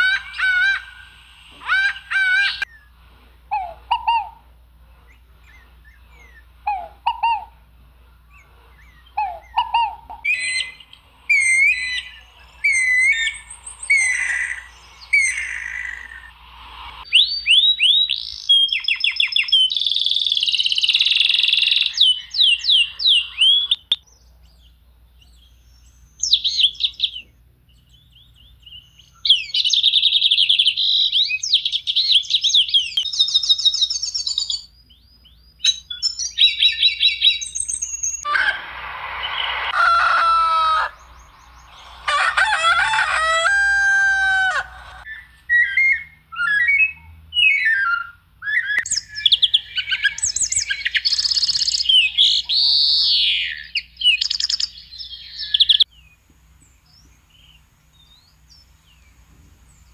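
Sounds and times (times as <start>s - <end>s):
songbirds whistling and trilling: 0.0s - 4.4s, 5.0s - 7.6s, 8.2s - 59.9s.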